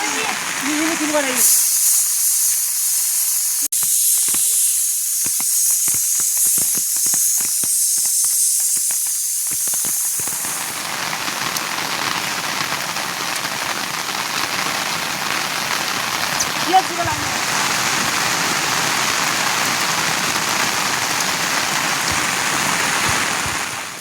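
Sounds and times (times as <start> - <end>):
high steady hiss: 0.0 - 24.0
steady rain: 0.0 - 24.0.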